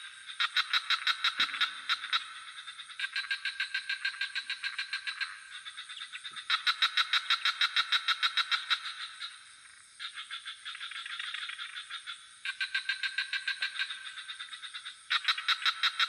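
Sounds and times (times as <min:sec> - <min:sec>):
frogs calling in pulsed trills: 0:00.0 - 0:16.0
high-pitched insect drone: 0:00.0 - 0:16.0.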